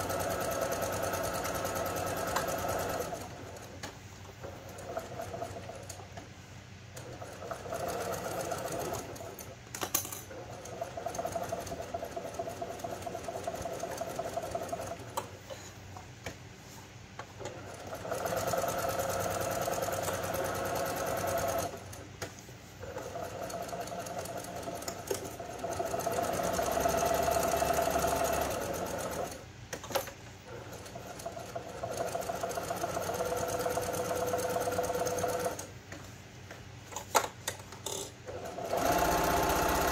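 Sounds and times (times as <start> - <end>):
sewing machine stitching: 0.0 - 3.8, 4.4 - 6.0, 7.0 - 9.6, 10.3 - 15.3, 17.4 - 22.0, 22.8 - 35.7, 37.8 - 39.9.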